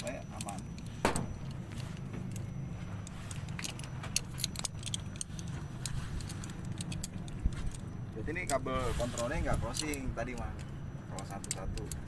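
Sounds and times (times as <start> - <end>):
metal hand tools clinking: 0.0 - 12.0
steady low hum: 0.0 - 12.0.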